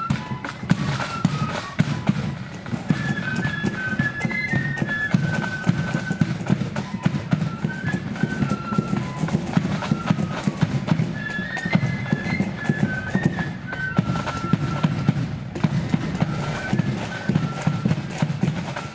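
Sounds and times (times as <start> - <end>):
flutes playing melody: 0.0 - 18.9
snare drum strokes: 0.0 - 18.9.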